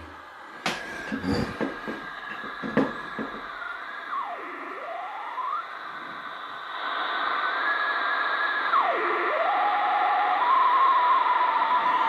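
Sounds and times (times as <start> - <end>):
radio whistling tone: 0.0 - 12.0.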